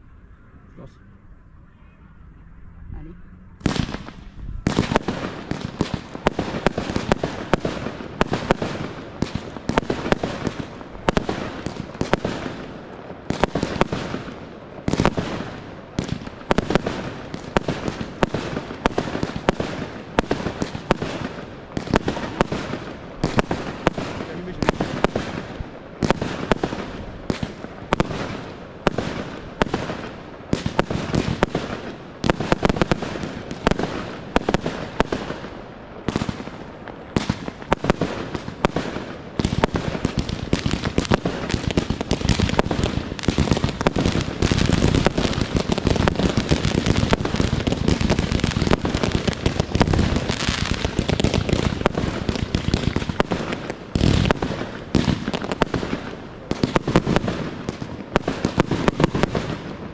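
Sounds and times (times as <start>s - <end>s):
fireworks launching and bursting: 3.0s - 59.9s.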